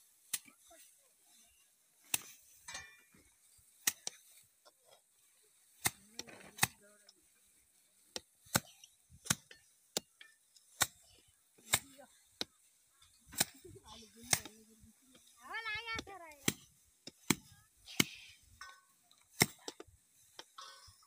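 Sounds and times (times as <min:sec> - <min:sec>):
rice bundles whacking floor: 0:00.1 - 0:03.0, 0:03.6 - 0:20.8.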